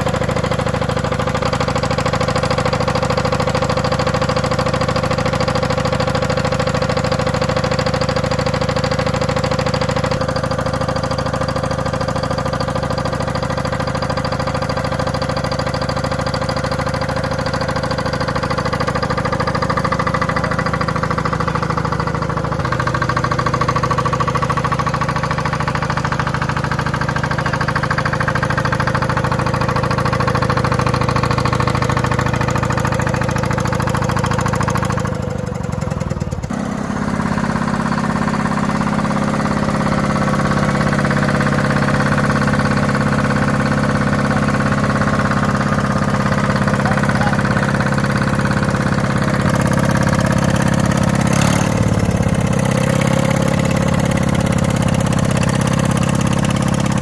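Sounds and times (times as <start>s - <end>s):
big engines running: 0.0s - 57.0s.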